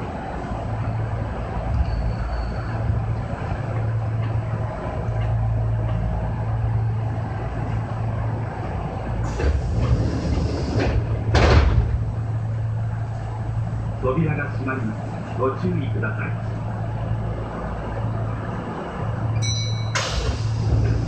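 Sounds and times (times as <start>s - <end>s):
electric train running hum: 0.0s - 21.0s.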